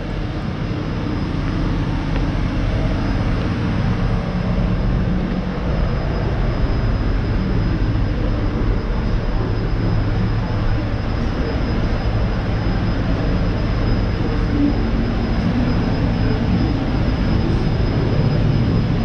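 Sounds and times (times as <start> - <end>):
steady low rumble: 0.0 - 19.0
thin high whine: 0.0 - 19.0.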